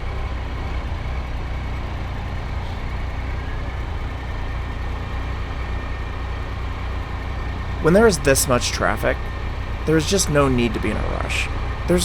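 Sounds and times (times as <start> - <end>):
motorcycle engine rumbling: 0.0 - 12.0
surrounding car traffic: 0.0 - 12.0.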